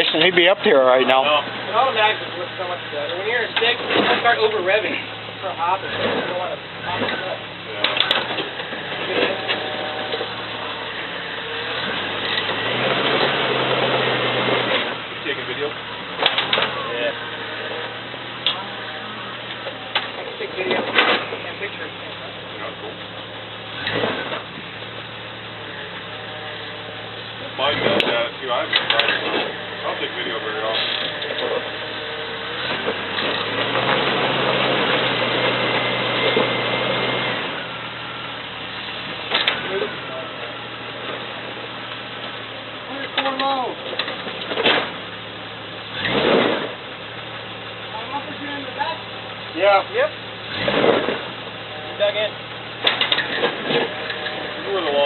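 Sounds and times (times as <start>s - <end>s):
off-road vehicle engine under load: 0.0s - 55.0s.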